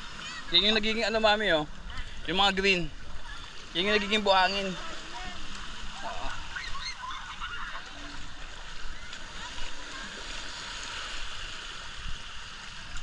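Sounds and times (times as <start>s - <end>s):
sea water washing on shore: 0.0s - 13.0s.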